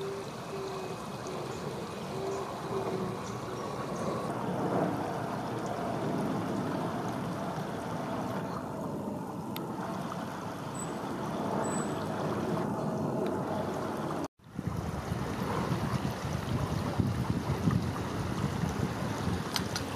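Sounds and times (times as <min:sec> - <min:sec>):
running river water: 0:00.0 - 0:19.9.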